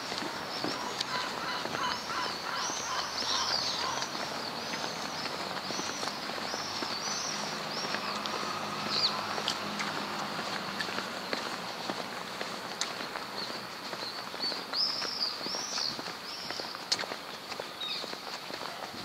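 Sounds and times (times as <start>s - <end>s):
many birds chirping: 0.0s - 19.0s.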